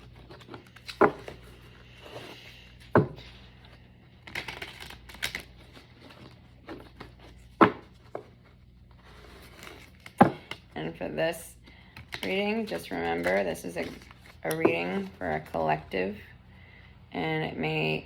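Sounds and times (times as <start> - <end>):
cards being shuffled: 0.0 - 10.8, 11.9 - 15.7.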